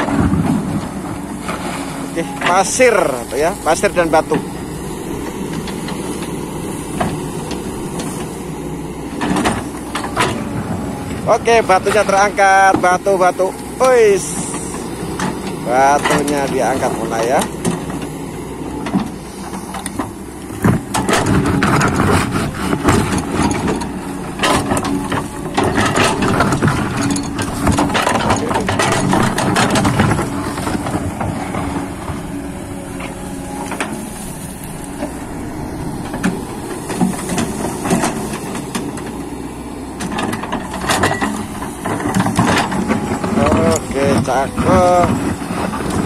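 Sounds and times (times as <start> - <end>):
excavator diesel engine: 0.0 - 46.0.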